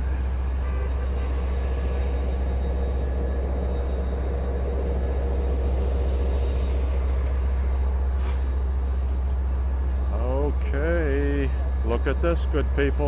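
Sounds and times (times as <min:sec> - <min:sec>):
diesel train low rumble: 0:00.0 - 0:13.0.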